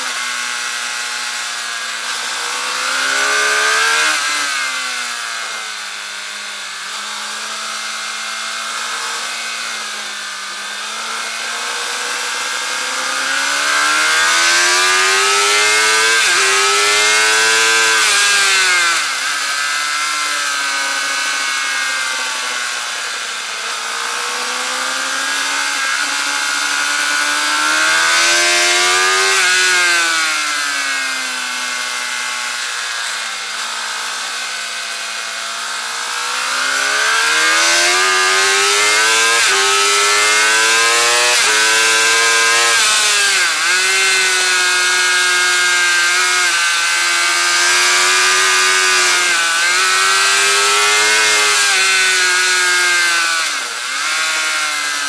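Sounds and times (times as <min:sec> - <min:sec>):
motorcycle engine at race pace: 0:00.0 - 0:55.0.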